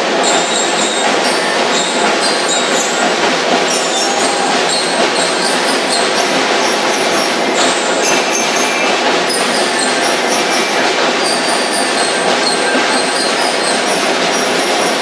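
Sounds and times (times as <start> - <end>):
snare drums rattling: 0.0 - 15.0.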